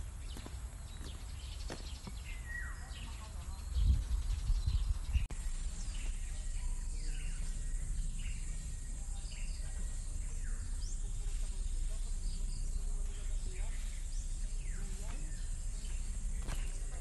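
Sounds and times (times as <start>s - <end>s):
low rumble on microphone: 0.0s - 17.0s
steady background hiss: 0.0s - 17.0s.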